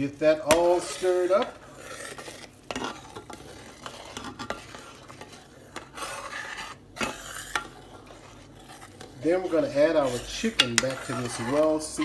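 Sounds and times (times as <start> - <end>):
low sizzle: 0.0 - 12.0
utensil scraping a skillet: 0.0 - 12.0.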